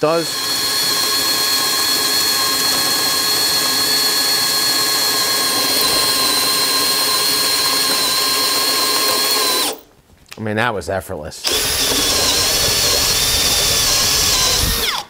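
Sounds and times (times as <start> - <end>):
drill motor whine: 0.0 - 9.8, 11.4 - 15.0.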